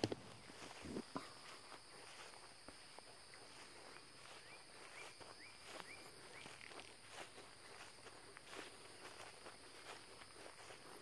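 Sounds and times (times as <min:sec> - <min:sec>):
soft footsteps: 0:00.0 - 0:11.0.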